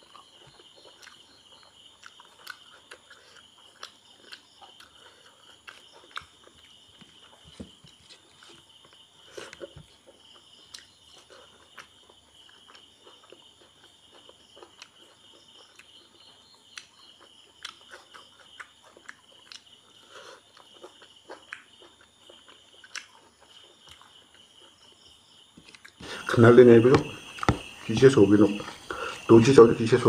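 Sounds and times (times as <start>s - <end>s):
wet chewing and smacking: 0.0s - 26.3s, 26.9s - 29.3s
insects chirring: 0.0s - 30.0s.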